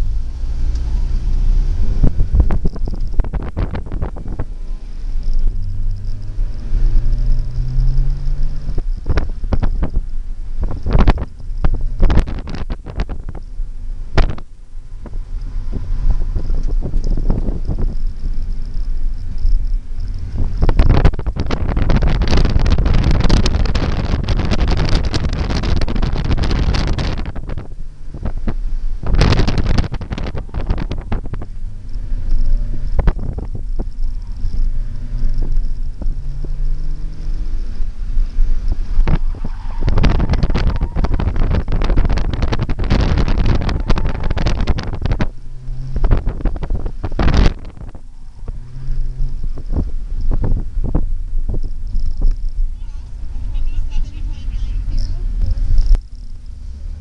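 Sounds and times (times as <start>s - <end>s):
car engine accelerating: 0.0s - 57.0s
wind buffeting microphone: 0.0s - 57.0s.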